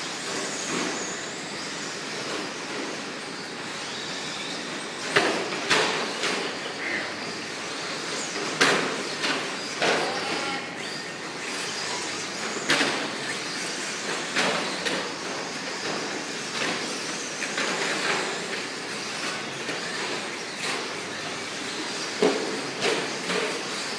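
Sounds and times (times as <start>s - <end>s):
toy truck motors whirring: 0.0s - 23.9s.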